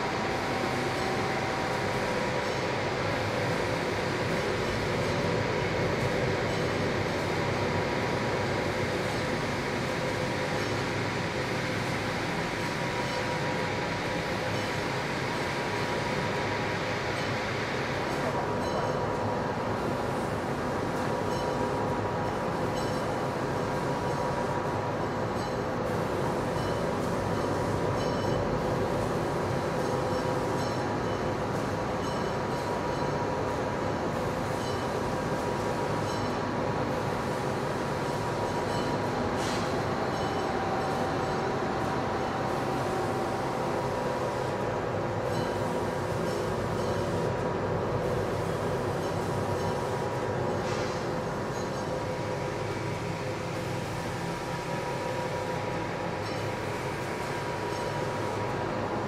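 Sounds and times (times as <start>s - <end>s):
industrial machinery drone: 0.0s - 59.0s.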